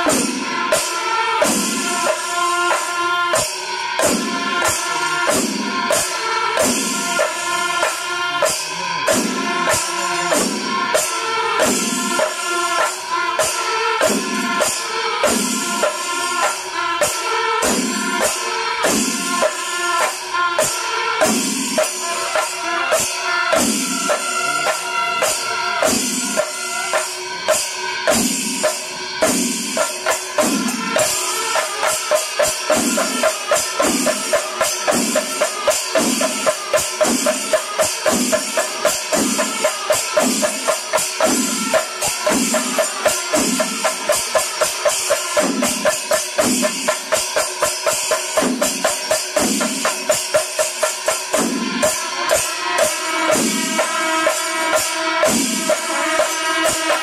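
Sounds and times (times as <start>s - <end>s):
cymbals: 0.0s - 57.0s
drums beating: 0.0s - 57.0s.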